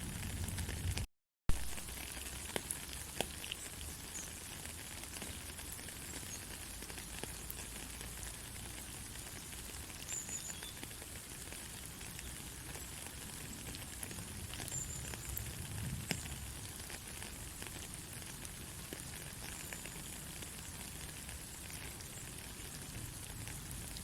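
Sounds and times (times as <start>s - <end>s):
rain on foliage: 0.0s - 24.0s.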